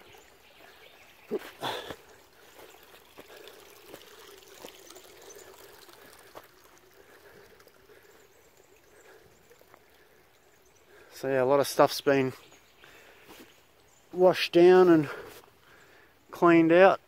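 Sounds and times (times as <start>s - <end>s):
creek water trickling: 0.0s - 17.0s.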